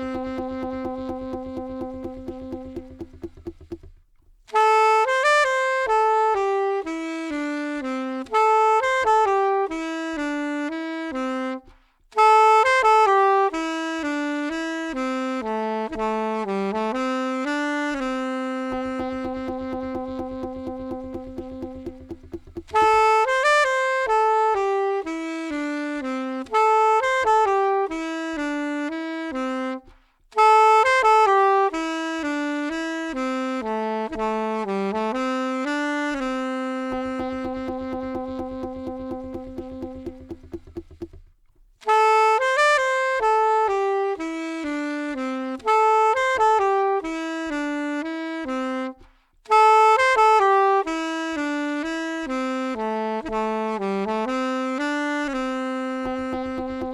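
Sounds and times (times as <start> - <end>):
saxophone slow melody: 0.0 - 56.9.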